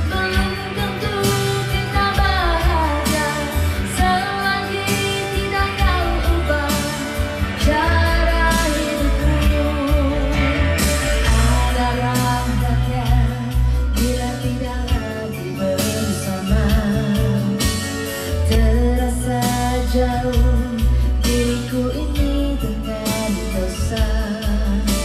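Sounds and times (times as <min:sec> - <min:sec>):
karaoke backing track: 0:00.0 - 0:25.0
woman singing into a microphone: 0:00.0 - 0:25.0.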